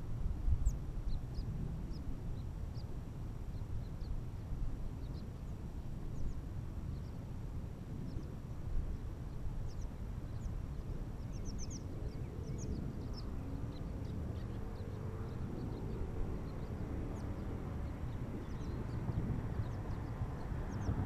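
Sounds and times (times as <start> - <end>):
faint engine hum: 0.0 - 21.0
wind rumbling on microphone: 0.0 - 21.0
small birds chirping: 0.5 - 21.0.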